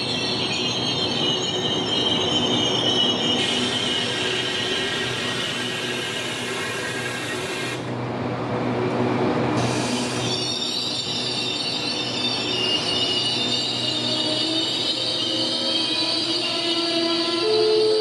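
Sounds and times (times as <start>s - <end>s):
train brakes squealing: 0.0s - 7.9s, 9.6s - 18.0s.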